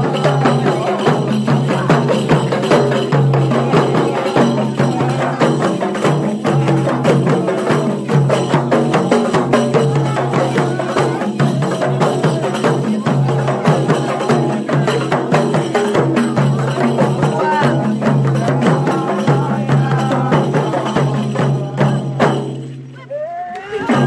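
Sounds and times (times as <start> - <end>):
hand-beaten frame drums: 0.0 - 24.0
men chanting: 0.0 - 24.0.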